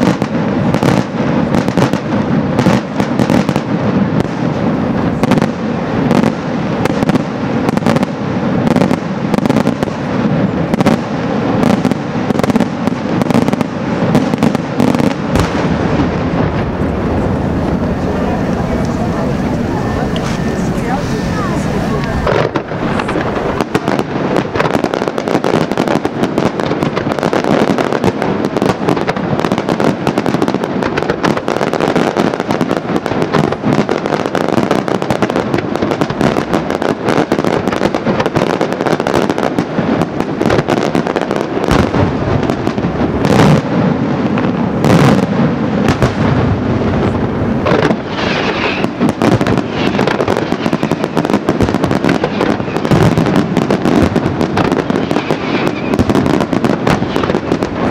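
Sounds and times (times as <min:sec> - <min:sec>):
fireworks crackling bangs: 0:00.0 - 0:57.9
loud sharp bangs: 0:00.0 - 0:57.9.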